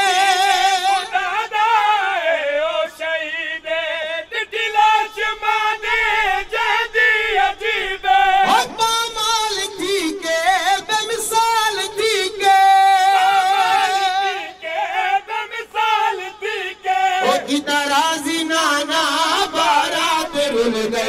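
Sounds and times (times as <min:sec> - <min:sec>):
man chanting through microphone: 0:00.0 - 0:21.0
men singing in chorus: 0:00.0 - 0:21.0.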